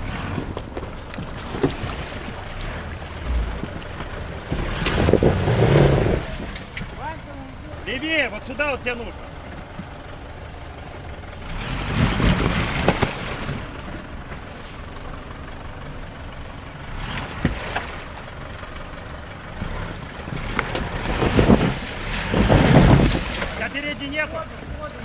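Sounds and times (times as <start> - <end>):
pickup engine revving under load: 0.0 - 7.9, 9.2 - 24.7.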